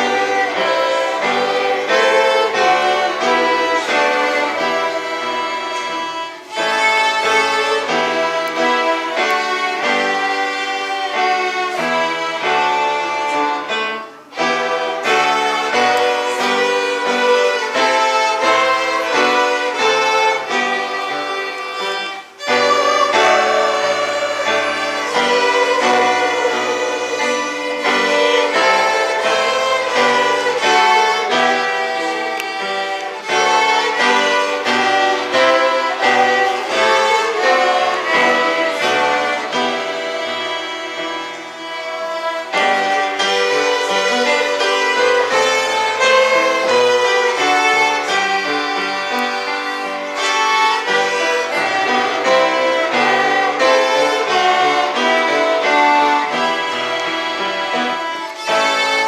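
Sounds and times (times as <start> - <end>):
violins playing a melody: 0.0 - 59.0.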